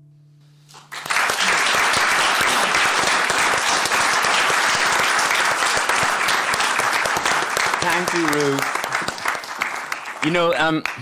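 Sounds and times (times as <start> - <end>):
audience applause: 0.7 - 11.0.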